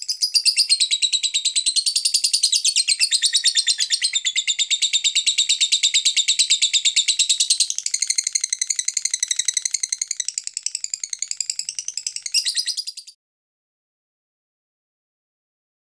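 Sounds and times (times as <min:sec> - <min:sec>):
lovebird chattering: 0:00.0 - 0:13.2.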